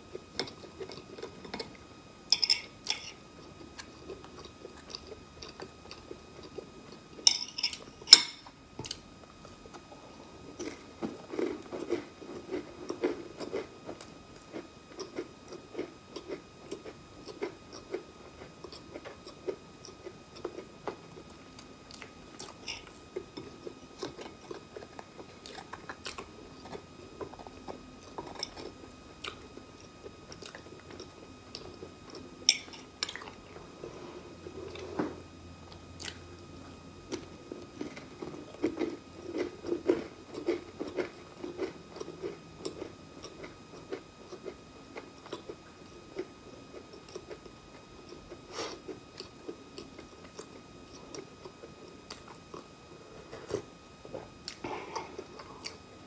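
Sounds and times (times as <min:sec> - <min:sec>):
soft rhythmic chewing: 0:00.0 - 0:56.0.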